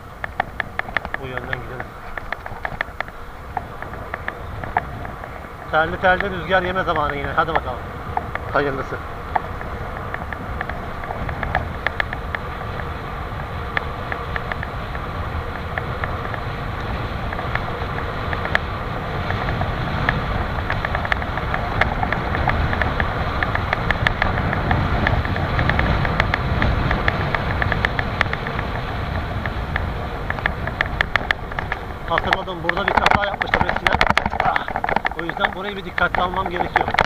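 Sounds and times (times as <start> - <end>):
bike tyres rumbling on rough road: 0.0 - 37.0
wind buffeting microphone: 0.0 - 37.0
small clicks and rattles: 0.2 - 37.0.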